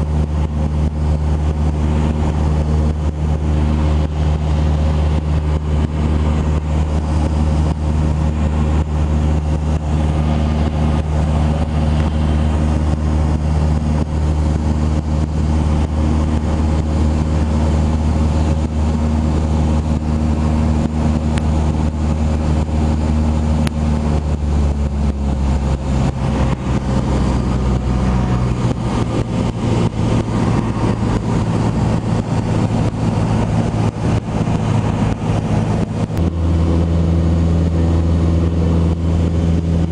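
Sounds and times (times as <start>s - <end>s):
plane engine and propeller droning: 0.0s - 39.9s.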